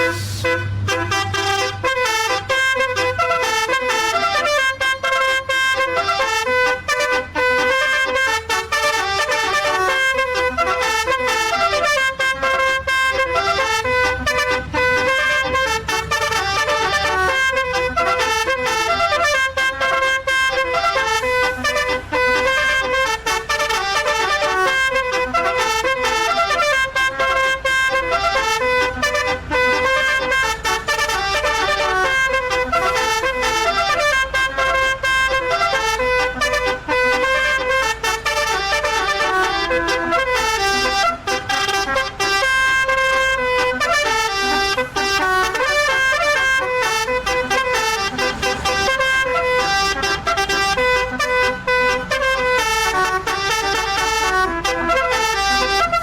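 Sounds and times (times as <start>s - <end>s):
bus multi-tone horn melody: 0.0s - 56.0s.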